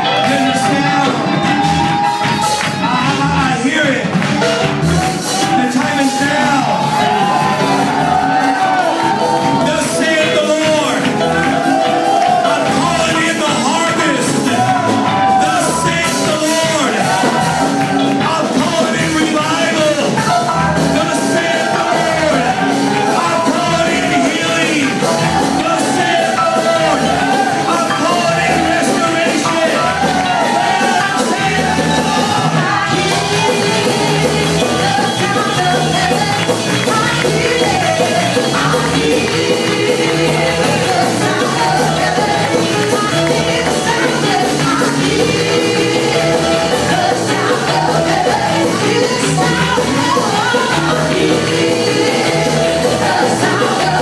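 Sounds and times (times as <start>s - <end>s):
congregation clapping: 0.0s - 54.0s
gospel band with keyboard: 0.0s - 54.0s
voices singing: 0.0s - 54.0s.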